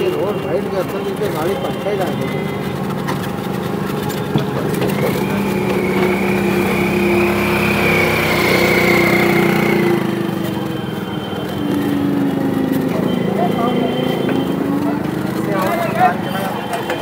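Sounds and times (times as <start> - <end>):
rickshaw motor running: 0.0 - 17.0
road noise: 0.0 - 17.0.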